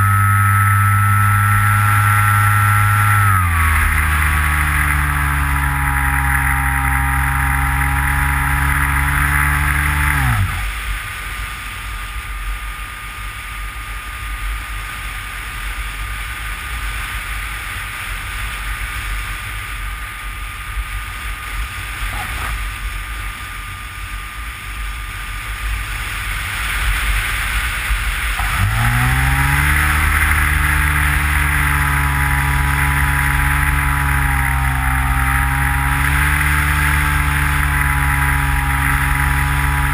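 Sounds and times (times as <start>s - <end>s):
model plane motor whine: 0.0s - 15.6s, 19.8s - 39.9s.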